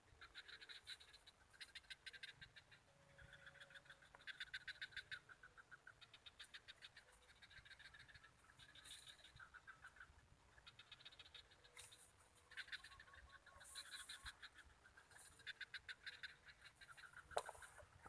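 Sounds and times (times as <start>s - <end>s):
frogs calling in clicking pulses: 0.1s - 18.0s.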